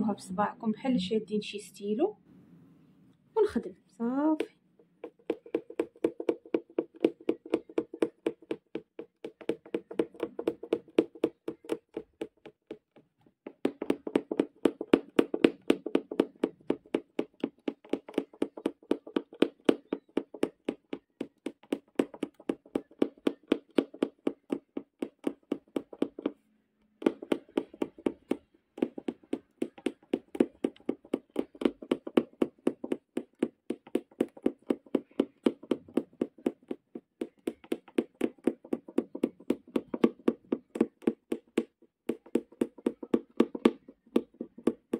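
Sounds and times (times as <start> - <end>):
punch needle tapping through fabric: 4.3 - 44.9.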